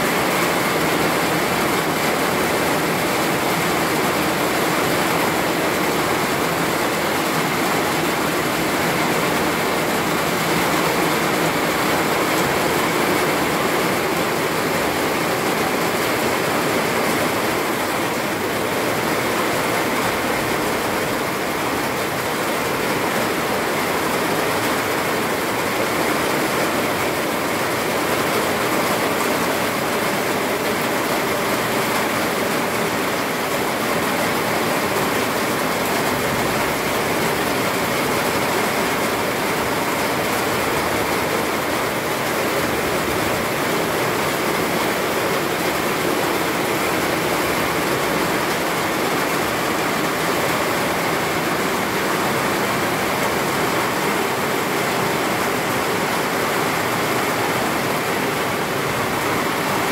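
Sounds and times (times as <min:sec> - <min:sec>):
rain pouring on foliage: 0:00.0 - 0:59.9.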